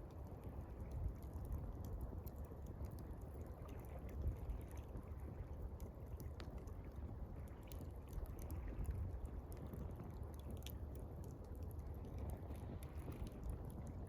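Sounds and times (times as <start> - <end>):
campfire crackles: 0.0 - 14.0.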